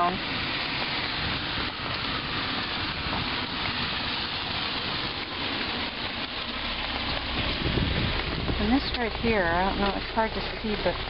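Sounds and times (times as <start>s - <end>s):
rushing flood water: 0.0s - 11.0s.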